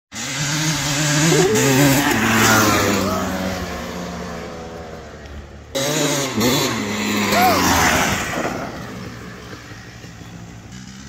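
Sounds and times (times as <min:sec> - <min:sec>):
dirt bike engine revving: 0:00.2 - 0:04.7, 0:05.7 - 0:11.0.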